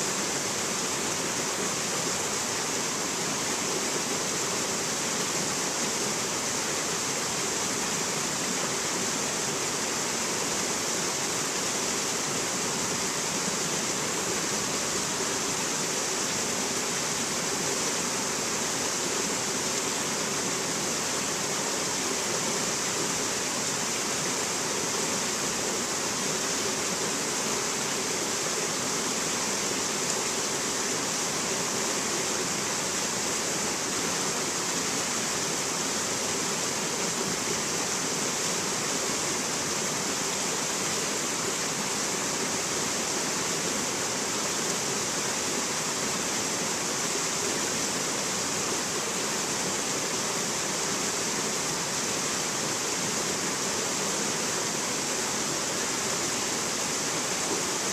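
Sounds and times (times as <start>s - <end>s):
stream rushing over rocks: 0.0s - 57.9s.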